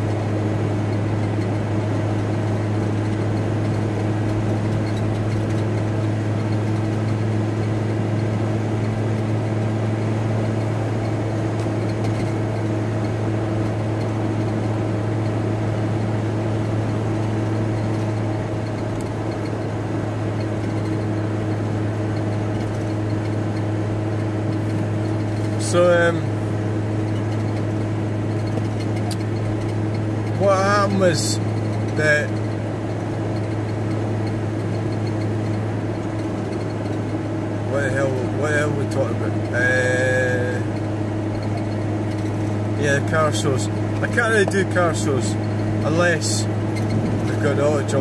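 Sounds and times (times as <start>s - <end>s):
van engine and road drone: 0.0s - 48.0s.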